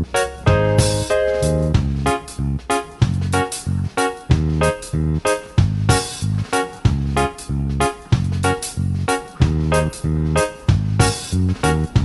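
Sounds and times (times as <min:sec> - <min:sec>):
upbeat plucked guitar music: 0:00.0 - 0:12.0.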